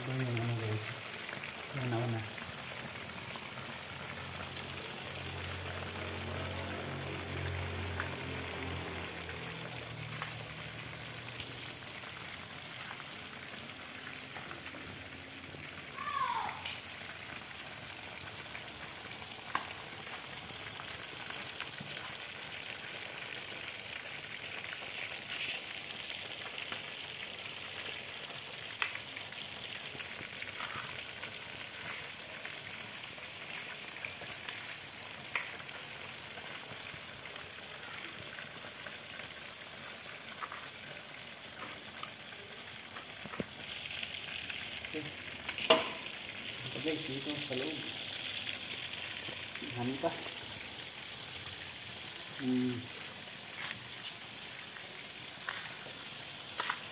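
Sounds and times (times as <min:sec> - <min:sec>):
chicken sizzling in hot oil: 0:00.0 - 0:56.9.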